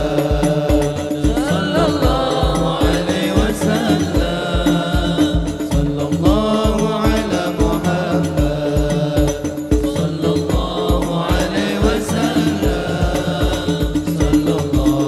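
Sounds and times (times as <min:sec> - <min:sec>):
deep bass drum: 0:00.0 - 0:15.0
frame drums beating: 0:00.0 - 0:15.0
men singing in unison: 0:00.0 - 0:15.0.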